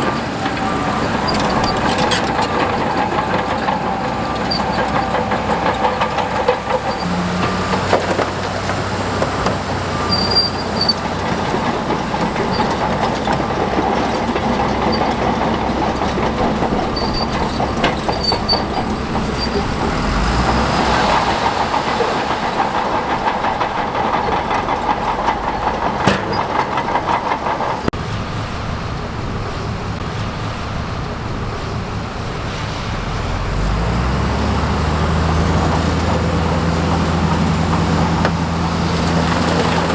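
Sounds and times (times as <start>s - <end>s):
diesel engine working: 0.0s - 39.9s
steel tracks clattering and squeaking: 0.0s - 39.9s.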